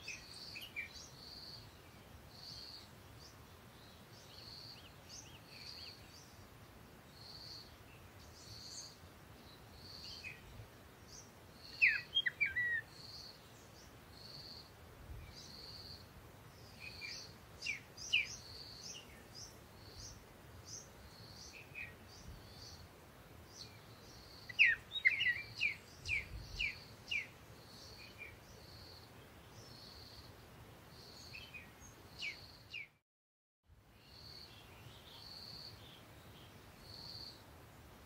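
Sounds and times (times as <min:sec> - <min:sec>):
small birds chirping: 0:00.0 - 0:33.0, 0:34.0 - 0:37.9.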